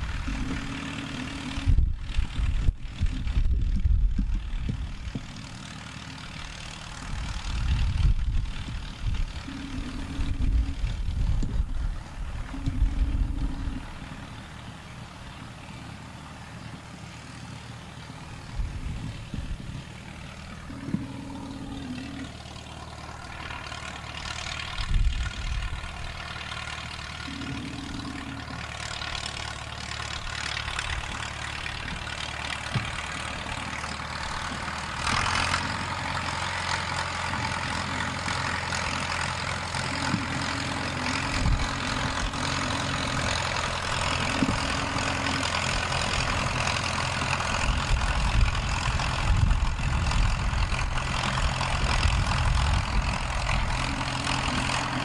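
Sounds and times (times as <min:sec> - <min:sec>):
tractor diesel engine at low revs: 0:00.0 - 0:55.0.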